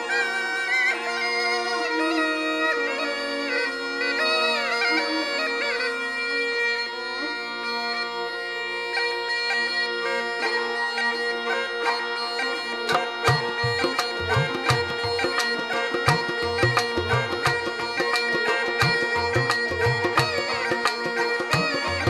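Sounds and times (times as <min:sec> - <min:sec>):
sliding folk melody over drone: 0:00.0 - 0:22.0.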